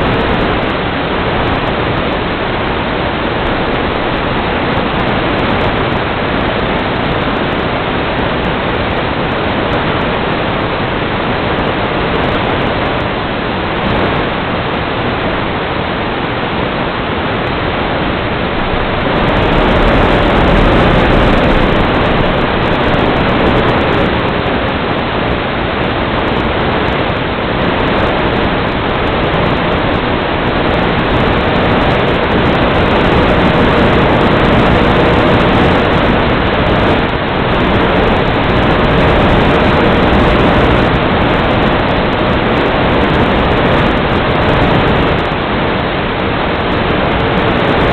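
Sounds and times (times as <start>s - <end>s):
faint steady hum: 0.0s - 47.9s
loud static hiss: 0.0s - 47.9s.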